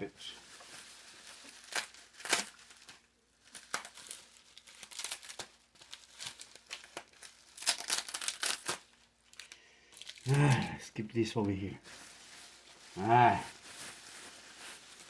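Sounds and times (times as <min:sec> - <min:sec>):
packaging crinkling: 0:00.3 - 0:15.0.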